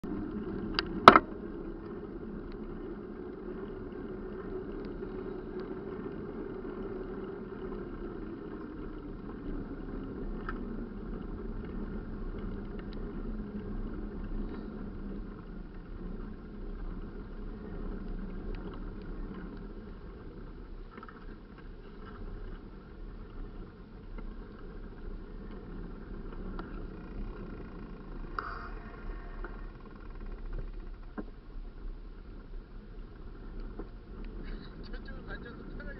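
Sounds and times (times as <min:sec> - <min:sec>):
engine drone: 0:00.0 - 0:35.9.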